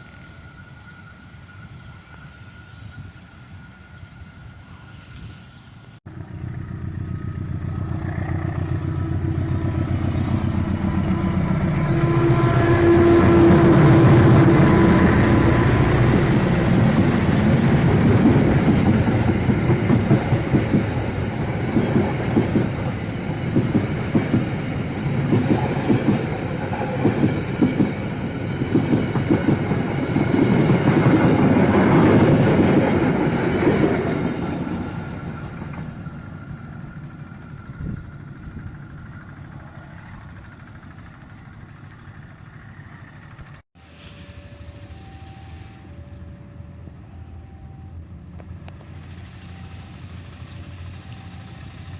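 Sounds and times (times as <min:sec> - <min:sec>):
diesel locomotive passing: 0:00.0 - 0:51.9.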